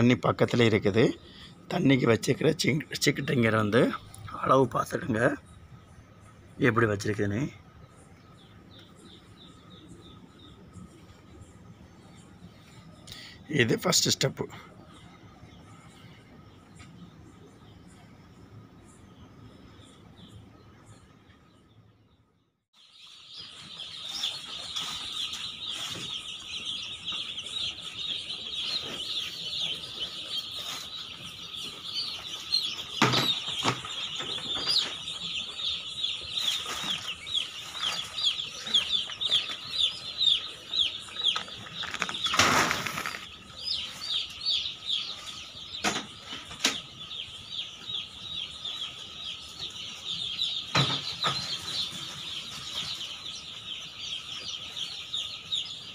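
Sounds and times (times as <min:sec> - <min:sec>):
chicks peeping: 0:00.0 - 0:22.1, 0:22.8 - 0:55.9.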